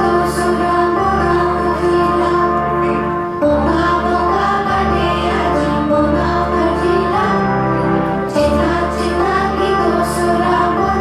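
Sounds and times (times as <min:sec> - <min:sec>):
instrumental accompaniment with bass: 0:00.0 - 0:11.0
person singing: 0:00.0 - 0:11.0.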